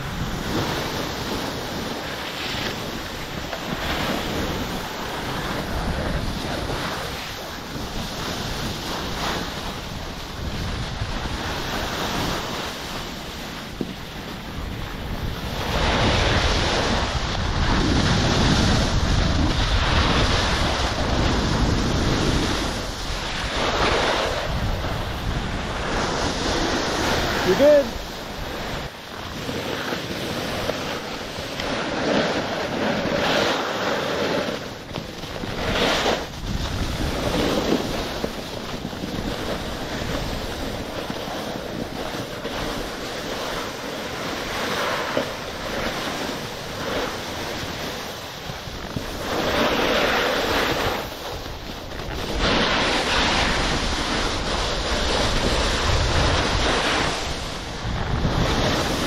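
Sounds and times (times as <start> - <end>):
skis hissing over snow: 0.0 - 59.0
wind rushing over microphone: 0.0 - 59.0.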